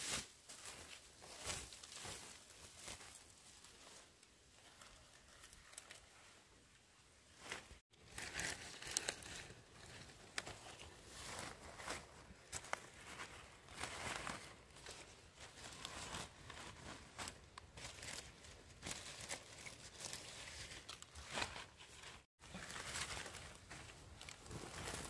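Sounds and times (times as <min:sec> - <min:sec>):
rustling and crinkling: 0:00.0 - 0:06.4, 0:07.3 - 0:25.0.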